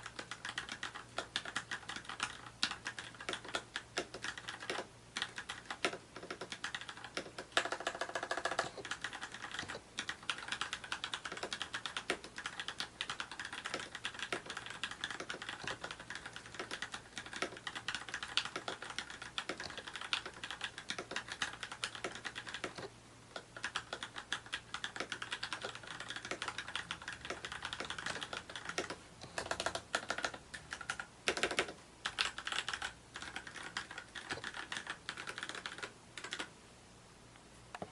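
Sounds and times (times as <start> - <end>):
typing on mechanical keyboard: 0.0 - 36.5.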